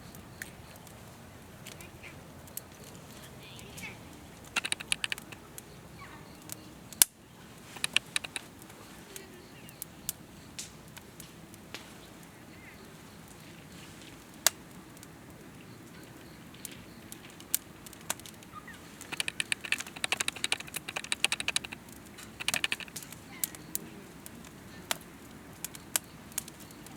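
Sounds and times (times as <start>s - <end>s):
campfire crackling and popping: 0.0s - 26.9s
low steady hiss: 0.0s - 26.9s.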